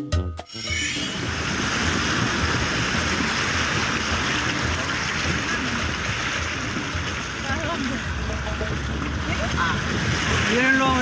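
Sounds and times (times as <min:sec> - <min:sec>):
flowing creek water: 0:01.0 - 0:11.0.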